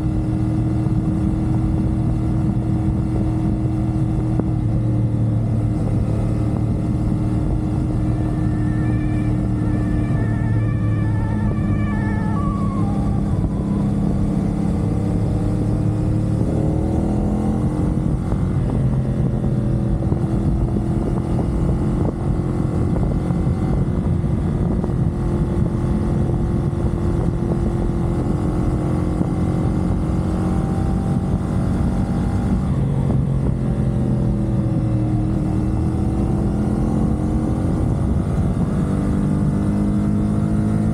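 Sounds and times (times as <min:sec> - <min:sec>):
motorcycle engine cruising: 0:00.0 - 0:40.9
road and wind noise: 0:00.0 - 0:40.9.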